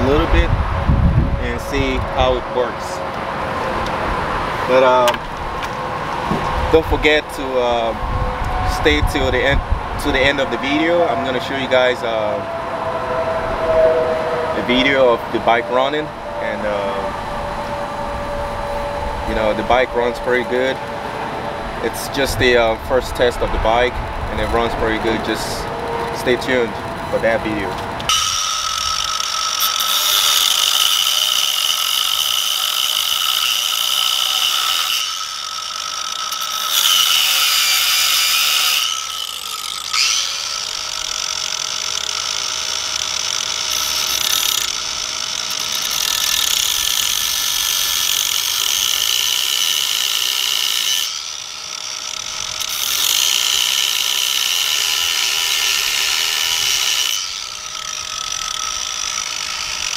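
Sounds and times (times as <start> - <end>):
angle grinder grinding metal: 0.0 - 0.6, 1.2 - 59.9.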